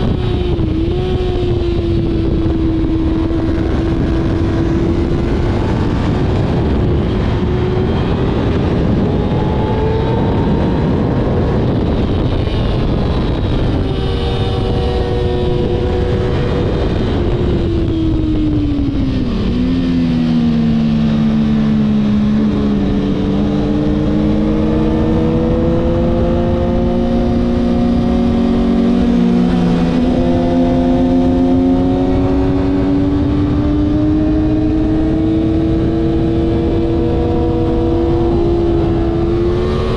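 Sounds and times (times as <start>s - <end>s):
motorcycle engine at speed: 0.0s - 39.9s
wind noise: 0.0s - 39.9s.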